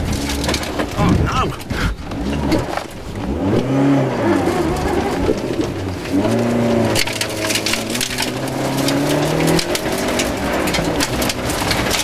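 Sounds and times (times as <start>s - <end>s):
gravel rattling against car body: 0.0s - 12.0s
rally car engine revving: 0.0s - 12.0s.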